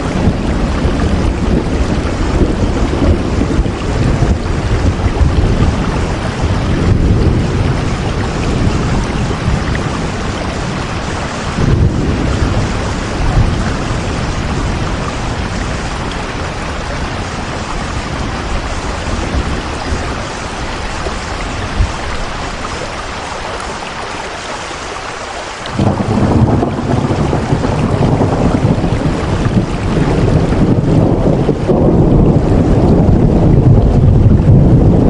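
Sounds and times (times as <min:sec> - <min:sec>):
thunder rumbling: 0:00.0 - 0:24.1, 0:25.6 - 0:35.0
heavy rain: 0:00.0 - 0:35.0.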